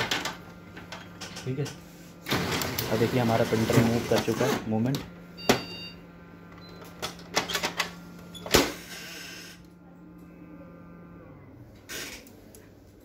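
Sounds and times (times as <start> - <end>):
printer motor hum: 1.9 - 12.8.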